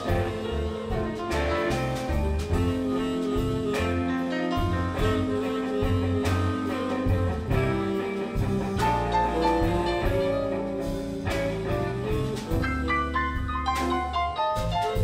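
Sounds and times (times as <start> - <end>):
blues band playing: 0.0 - 15.0
lead guitar: 0.0 - 15.0.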